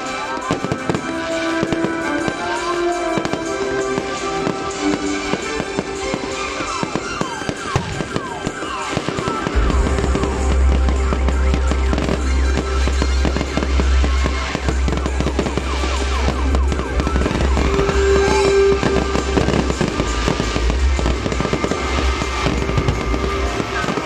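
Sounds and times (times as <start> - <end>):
fireworks bursting and crackling: 0.0 - 24.0
music playing: 0.0 - 24.0.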